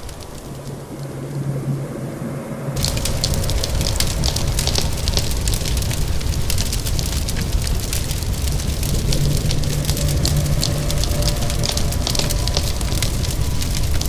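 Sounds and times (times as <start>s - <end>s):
wood fire crackling: 0.0s - 1.8s, 2.8s - 14.0s
steady rain hiss: 0.0s - 14.0s.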